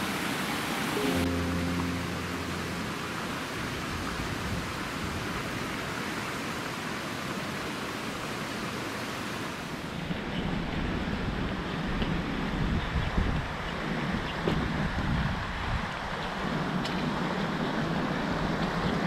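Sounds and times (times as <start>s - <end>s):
surf or running water: 0.0s - 19.0s.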